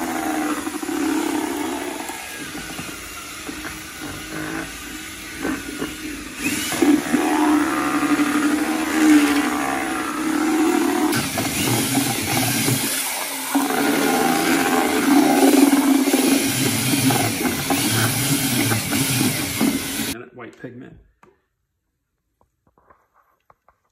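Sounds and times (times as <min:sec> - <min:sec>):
cordless drill mixing epoxy: 0:00.0 - 0:20.2.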